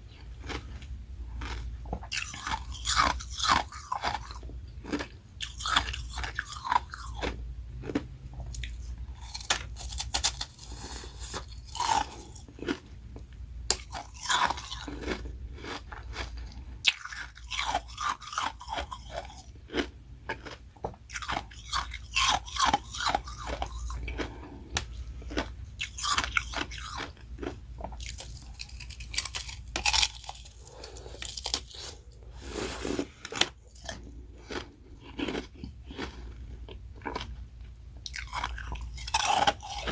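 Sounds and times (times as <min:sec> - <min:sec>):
chewing ice crunches: 0:00.4 - 0:12.9, 0:13.7 - 0:32.0, 0:33.2 - 0:37.4, 0:38.0 - 0:39.9.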